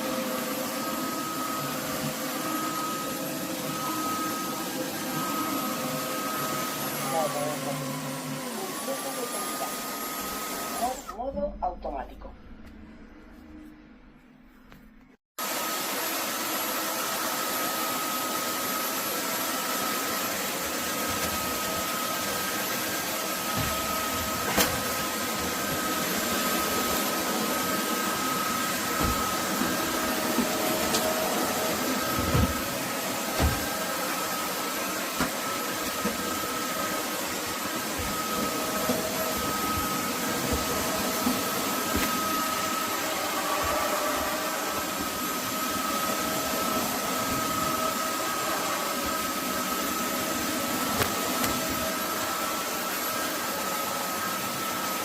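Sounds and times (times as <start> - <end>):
vacuum mop whirring: 0.0 - 11.2, 15.4 - 55.0.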